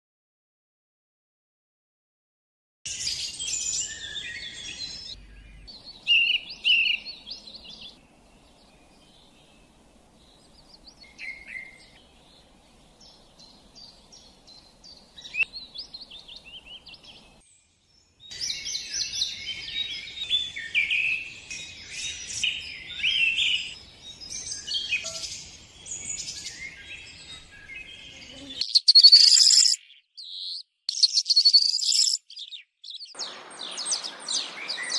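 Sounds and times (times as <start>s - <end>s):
birds chirping and singing: 2.9s - 34.9s.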